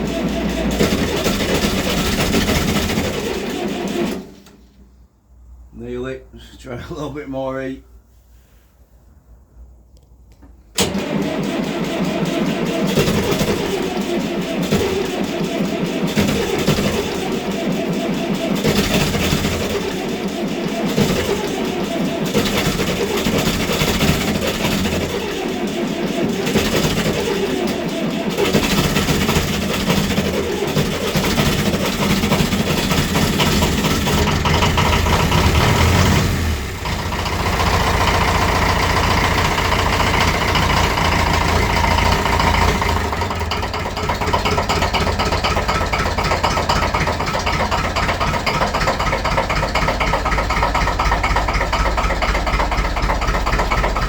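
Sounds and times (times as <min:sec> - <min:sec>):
tractor engine cold starting: 0:00.0 - 0:05.0, 0:10.4 - 0:54.0.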